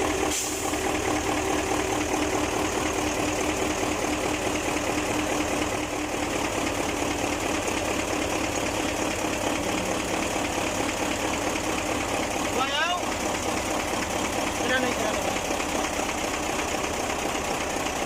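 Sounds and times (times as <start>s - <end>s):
diesel engine idling with knock: 0.0s - 18.0s.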